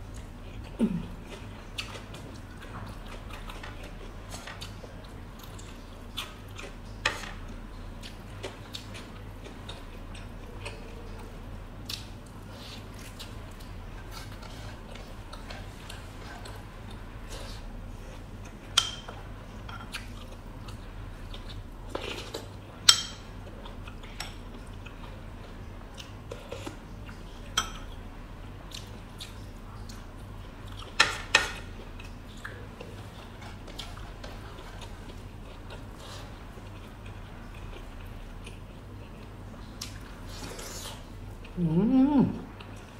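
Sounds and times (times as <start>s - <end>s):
faint low hum: 0.0s - 42.9s
woman chewing food: 0.0s - 42.9s.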